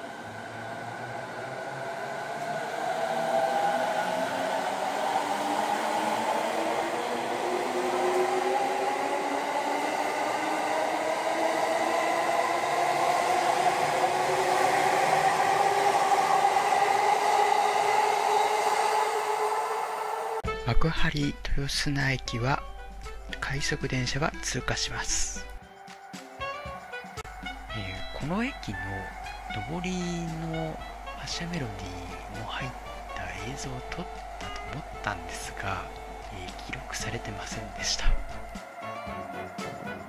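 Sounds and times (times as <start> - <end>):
train motor whine rising: 0.0 - 20.4, 26.1 - 40.0
train rolling noise: 0.0 - 20.5, 21.7 - 40.0.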